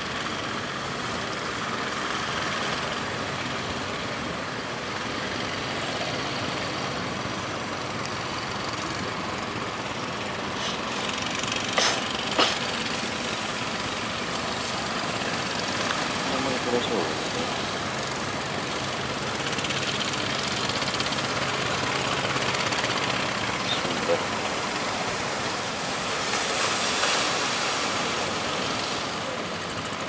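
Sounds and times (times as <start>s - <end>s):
fishing boat engines running: 0.0s - 30.0s
waves: 0.0s - 30.0s.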